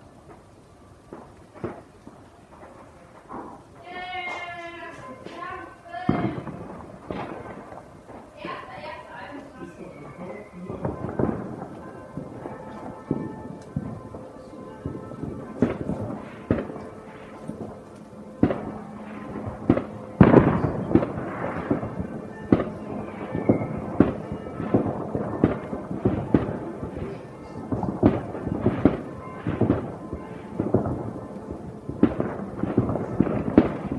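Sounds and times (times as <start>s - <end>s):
fireworks and firecrackers banging: 0.0s - 33.9s
church bells ringing: 3.8s - 33.9s.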